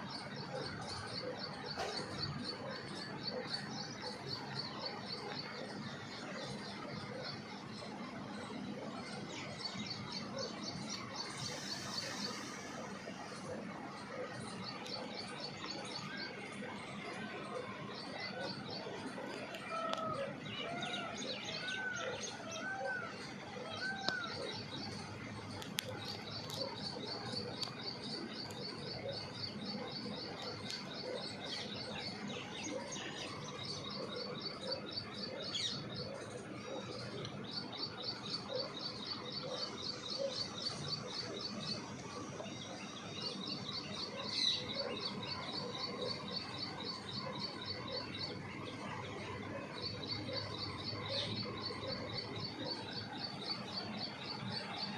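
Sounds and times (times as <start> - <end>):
small birds chirping: 0.1 - 54.9.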